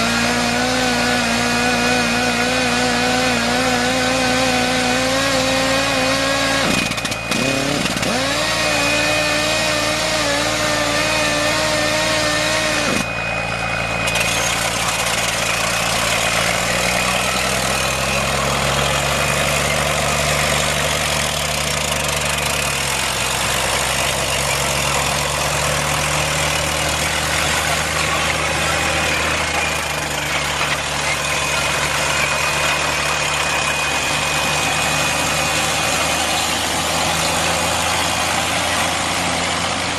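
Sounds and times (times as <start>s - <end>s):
deep engine running: 0.0s - 39.9s
higher-pitched engine: 0.0s - 39.9s.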